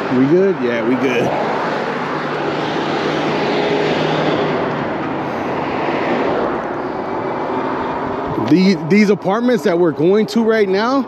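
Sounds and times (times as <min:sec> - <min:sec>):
tyre and road noise: 0:00.0 - 0:11.0.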